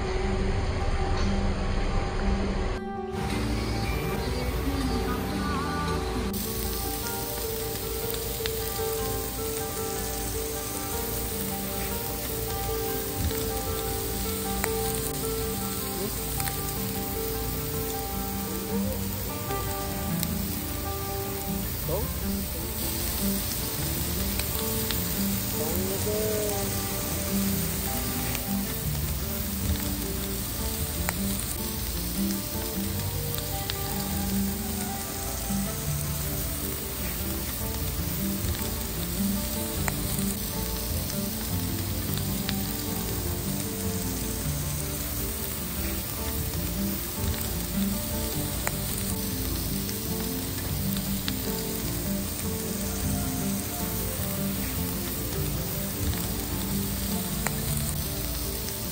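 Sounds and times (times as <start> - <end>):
meat sizzling on a griddle: 3.2 - 58.9.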